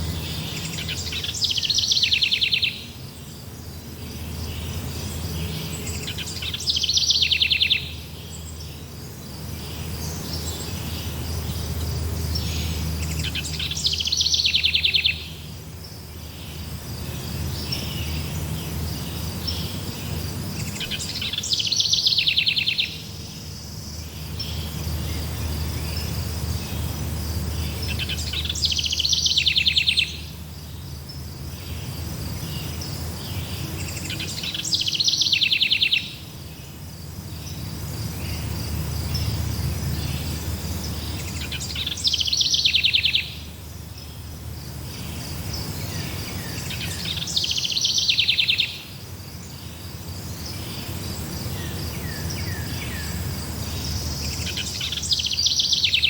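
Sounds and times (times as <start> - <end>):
insects trilling: 0.0 - 56.0
rapid buzzing insect trill: 0.0 - 56.0.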